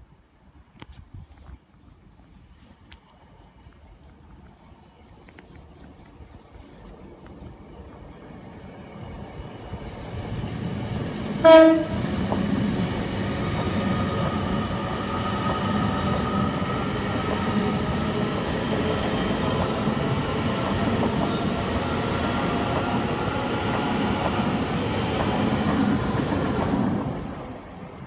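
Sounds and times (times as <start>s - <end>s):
train wheels on rails: 3.0s - 28.0s
high-speed train passing: 3.2s - 28.0s.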